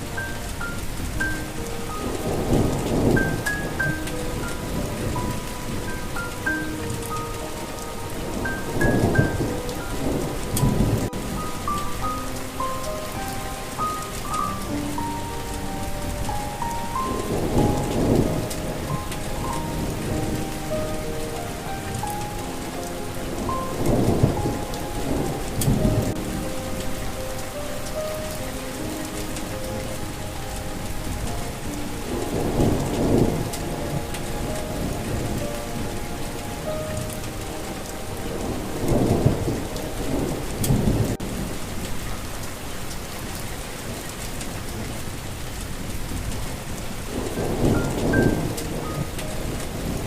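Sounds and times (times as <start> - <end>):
heavy rain: 0.0 - 50.0
soft melody of held notes: 0.0 - 50.0
thunder rumbling: 0.0 - 50.0.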